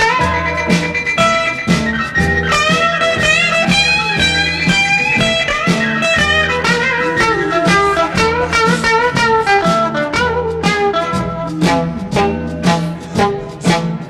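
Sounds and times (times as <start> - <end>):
blues guitar music with beat: 0.0 - 14.0.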